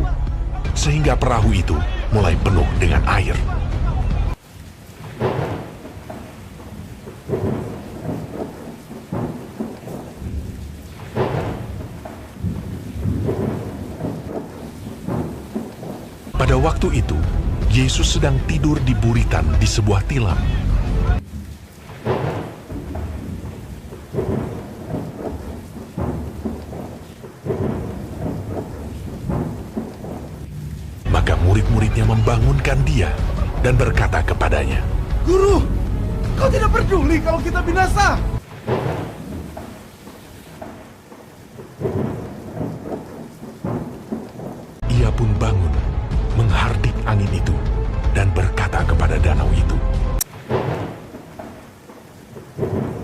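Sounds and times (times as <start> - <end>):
rumbling thunder: 0.0 - 47.7, 50.2 - 53.0
steady rain: 0.0 - 53.0.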